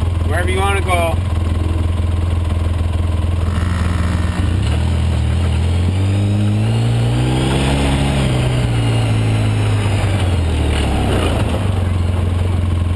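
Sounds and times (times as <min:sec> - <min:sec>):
quad bike engine running: 0:00.0 - 0:12.9.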